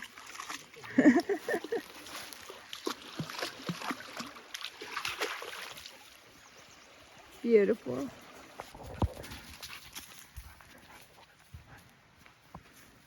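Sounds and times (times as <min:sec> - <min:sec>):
splashing in shallow water: 0:00.0 - 0:11.1.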